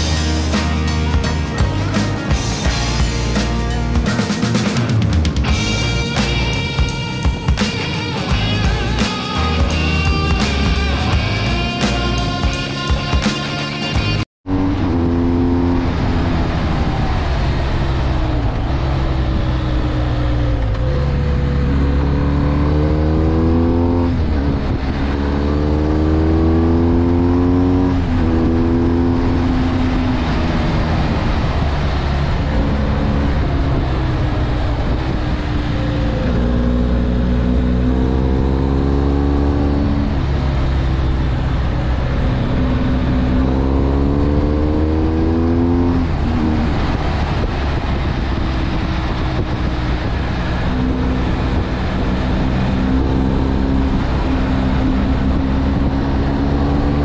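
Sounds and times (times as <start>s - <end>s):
motorcycle engine accelerating and shifting: 0.0s - 57.0s
wind and road rumble: 0.0s - 57.0s.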